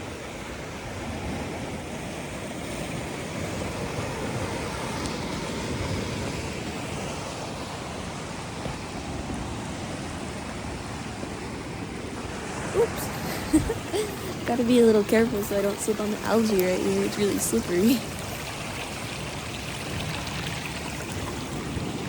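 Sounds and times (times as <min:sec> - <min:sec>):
surf washing against rocks: 0:00.0 - 0:22.0.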